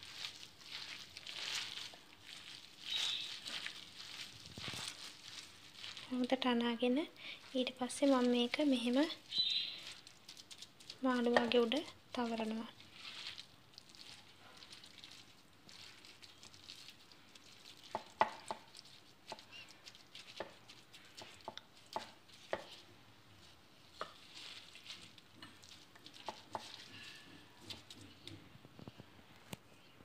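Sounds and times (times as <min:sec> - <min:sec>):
soft squelching and rubbing: 0:00.0 - 0:29.8.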